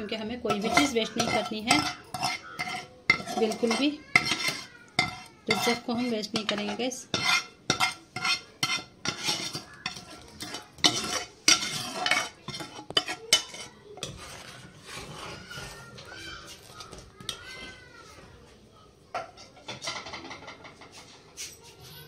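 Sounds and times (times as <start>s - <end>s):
spoon clinking and scraping pot: 0.0s - 17.8s, 19.2s - 21.6s.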